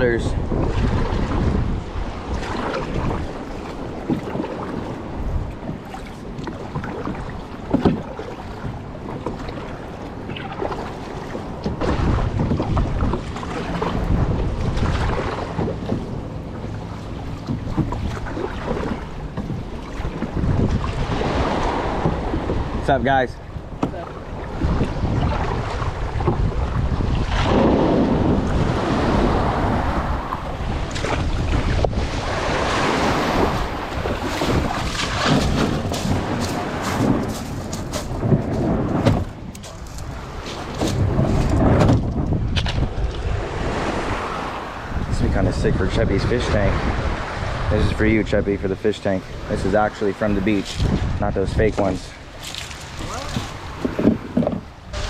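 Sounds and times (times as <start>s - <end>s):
ocean waves: 0.0s - 55.0s
water slapping hull: 0.0s - 55.0s
wind buffeting microphone: 0.0s - 55.0s
paddle strokes splashing: 0.4s - 45.1s, 49.0s - 55.0s.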